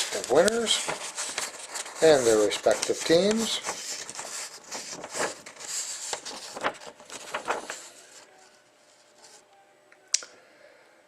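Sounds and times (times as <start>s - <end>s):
rustling handling noises: 0.0s - 9.4s.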